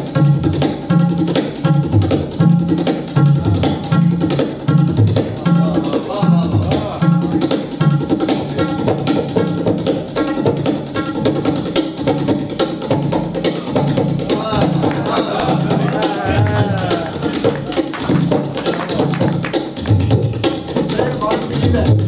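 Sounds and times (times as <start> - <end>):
tabla fast rhythm: 0.0 - 22.0.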